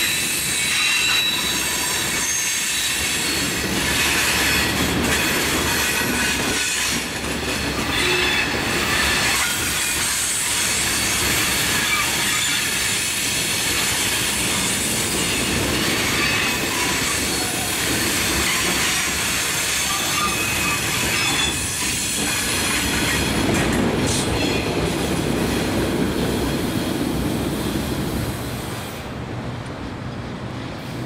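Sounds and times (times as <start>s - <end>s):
steel wheels squealing on rail: 0.0s - 29.1s
train rolling past: 0.0s - 31.0s.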